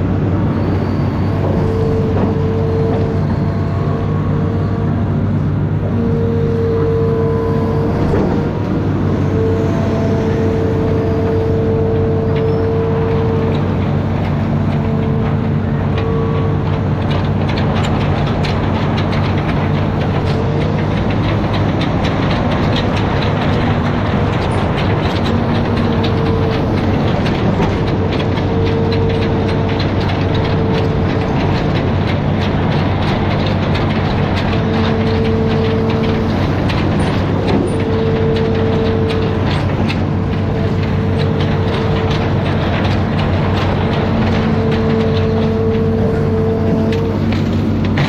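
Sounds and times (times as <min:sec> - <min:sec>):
diesel engine drone: 0:00.0 - 0:48.0
hydraulic whine: 0:00.0 - 0:48.0
metallic clatter: 0:06.6 - 0:48.0.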